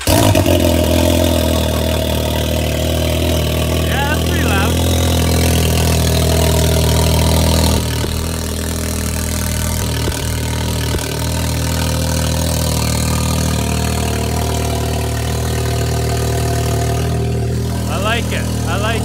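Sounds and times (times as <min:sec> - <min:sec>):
engine idling through straight pipe: 0:00.0 - 0:19.0.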